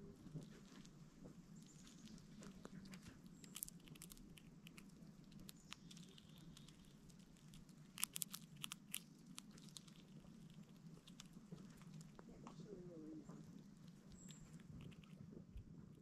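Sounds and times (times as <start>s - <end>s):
squirrel cracking seeds: 0.0s - 16.0s.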